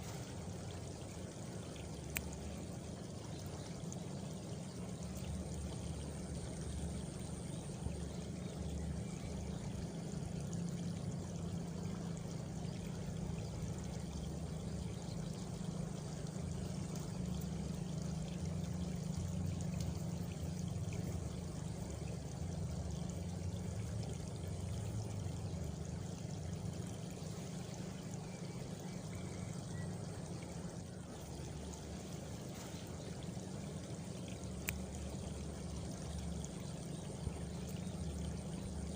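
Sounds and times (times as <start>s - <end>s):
flowing water: 0.0s - 38.9s.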